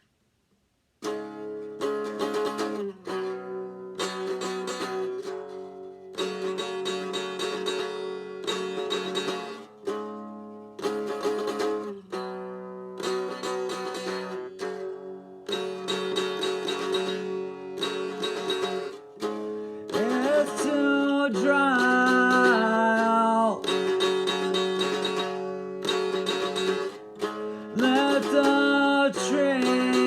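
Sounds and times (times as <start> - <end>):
guitar chords ringing: 1.0 - 30.0.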